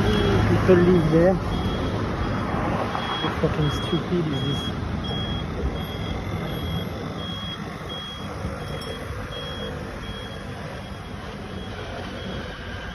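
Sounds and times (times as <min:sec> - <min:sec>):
engine and traffic rumble: 0:00.0 - 0:12.9
truck warning beeper: 0:00.0 - 0:12.9.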